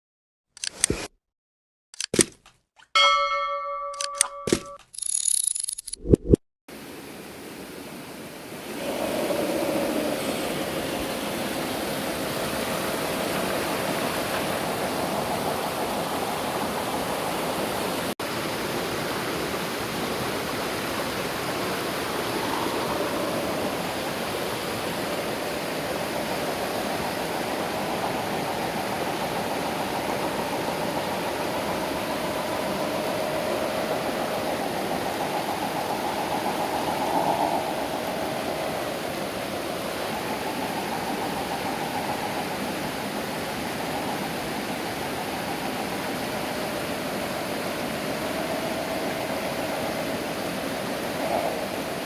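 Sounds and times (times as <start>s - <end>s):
river water rushing: 6.7s - 52.0s.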